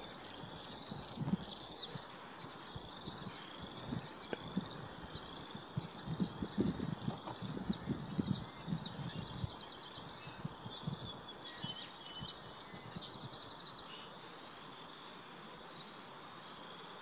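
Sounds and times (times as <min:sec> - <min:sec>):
insects humming: 0:00.0 - 0:17.0
songbirds chirping and trilling: 0:00.0 - 0:17.0.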